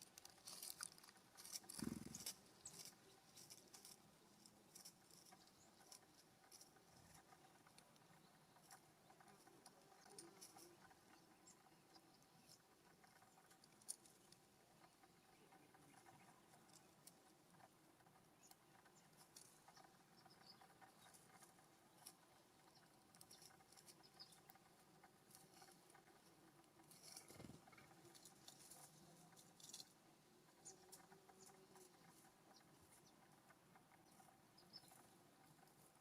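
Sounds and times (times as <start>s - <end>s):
birds pecking at seed: 0.0s - 36.0s.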